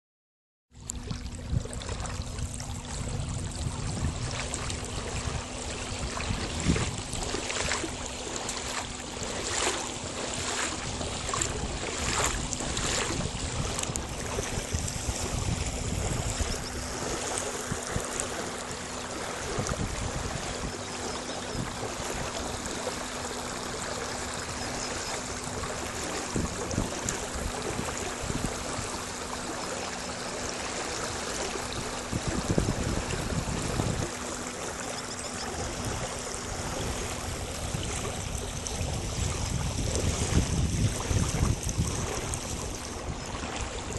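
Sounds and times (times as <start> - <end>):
regular splashes: 0.7 - 43.9
steady low hum: 0.8 - 43.9
water slapping against boat hull: 0.8 - 43.9.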